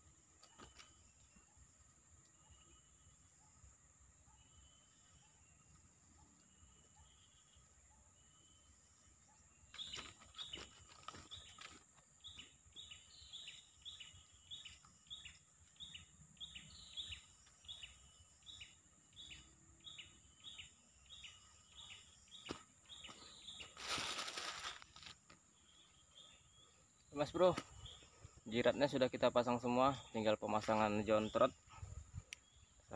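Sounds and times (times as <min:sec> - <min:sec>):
insect-like hum: 0:00.0 - 0:32.9.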